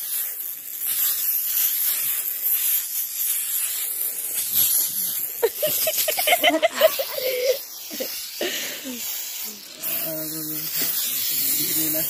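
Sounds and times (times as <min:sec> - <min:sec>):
aerosol spray can hissing: 0:00.0 - 0:12.0.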